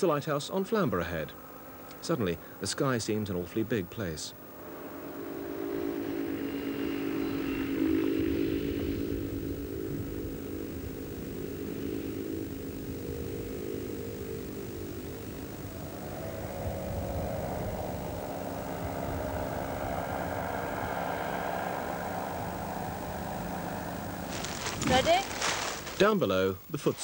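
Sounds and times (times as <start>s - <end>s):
small aircraft engine and propeller: 3.2s - 25.2s.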